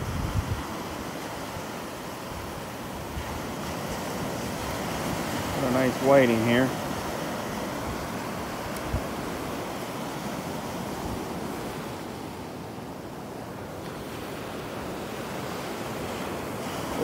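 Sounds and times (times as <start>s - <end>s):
surf washing over sand: 0.0s - 17.0s
wind on microphone: 0.0s - 17.0s.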